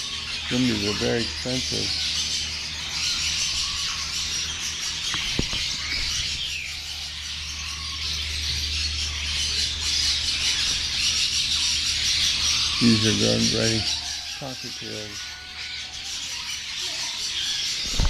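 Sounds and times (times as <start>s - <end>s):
caged birds chirping and squawking: 0.0s - 18.0s
steady low hum: 0.0s - 18.0s.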